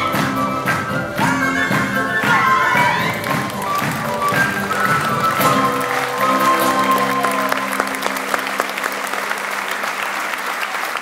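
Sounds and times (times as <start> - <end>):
folk band playing: 0.0 - 9.8
audience applauding: 0.0 - 11.0.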